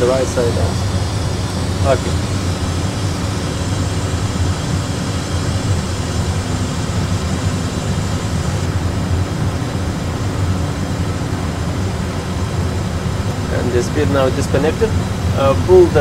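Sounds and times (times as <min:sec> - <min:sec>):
aircraft cockpit rumble and hiss: 0:00.0 - 0:16.0.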